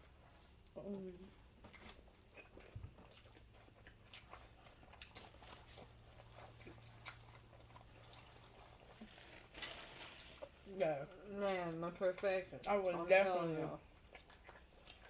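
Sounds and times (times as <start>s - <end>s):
person chewing food: 0.0s - 10.9s, 13.8s - 15.0s
faint low hum: 0.0s - 15.0s.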